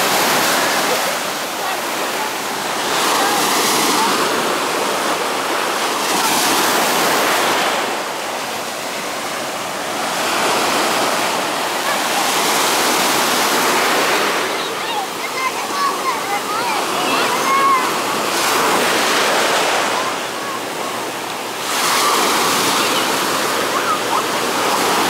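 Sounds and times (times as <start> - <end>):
sea surf breaking: 0.0 - 25.0.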